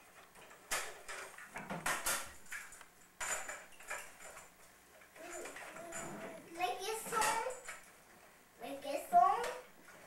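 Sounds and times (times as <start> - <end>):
plastic clacks and rattles: 0.0 - 8.3.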